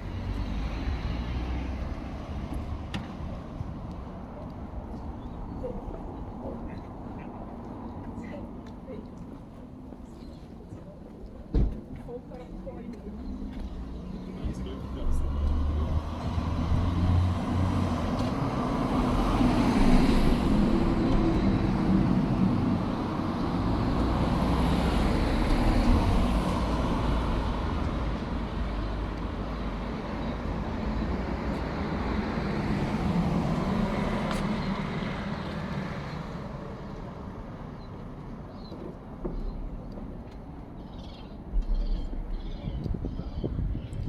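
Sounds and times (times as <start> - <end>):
vehicles passing: 0.0 - 11.2, 11.8 - 44.0.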